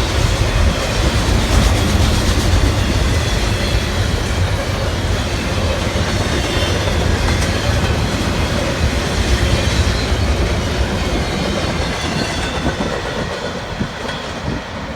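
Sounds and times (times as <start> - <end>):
freight train wheels clattering: 0.0 - 14.9.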